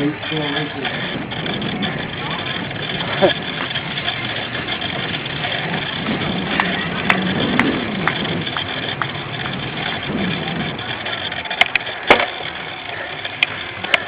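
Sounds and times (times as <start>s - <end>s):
bike clicks and knocks: 0.0s - 14.0s
bike tyres rolling: 0.0s - 14.0s.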